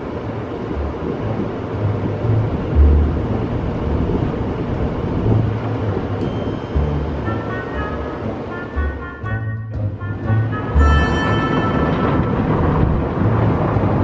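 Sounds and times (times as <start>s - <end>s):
car wash water and machinery: 0.0s - 14.0s.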